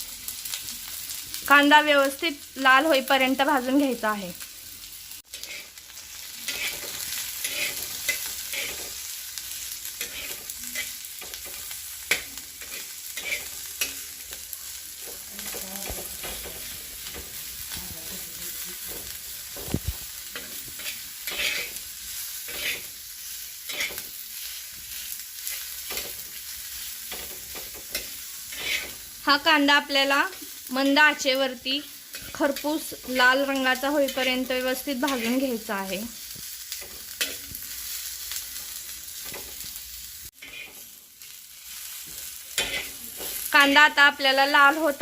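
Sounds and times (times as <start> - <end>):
onion sizzling in oil: 0.0 - 45.0.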